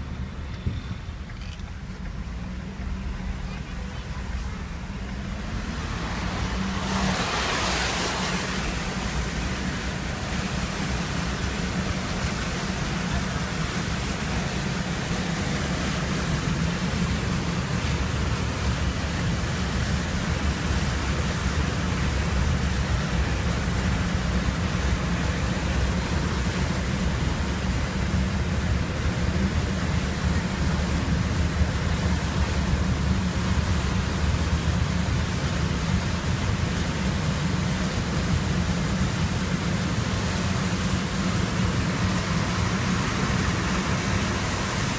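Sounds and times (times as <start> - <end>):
low engine rumble: 0.0 - 44.9
water rushing under tyres: 0.0 - 44.9.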